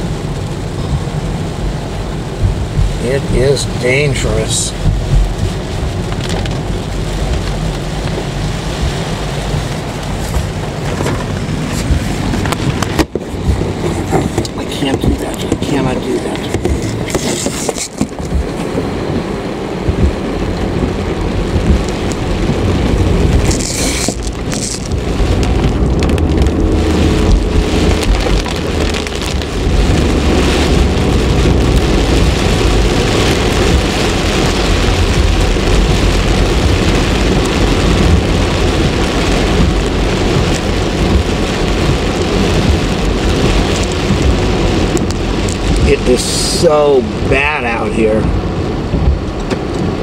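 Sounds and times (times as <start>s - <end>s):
heavy rain on car roof: 0.0s - 50.0s
low rumble: 0.0s - 50.0s.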